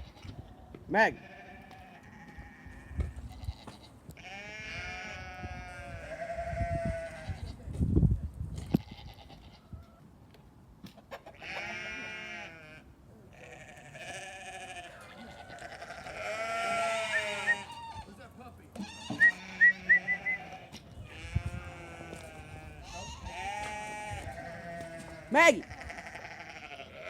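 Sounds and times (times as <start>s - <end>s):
animal bleating: 0.0s - 7.7s, 8.6s - 10.0s, 11.2s - 18.1s, 18.8s - 27.0s.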